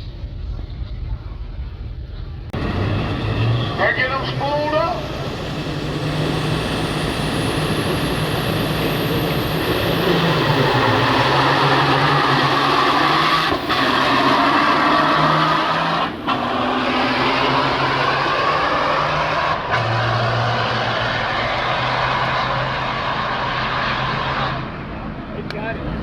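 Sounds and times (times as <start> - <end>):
diesel truck engines revving: 2.4 - 26.0
high turbo whistle: 2.6 - 24.8.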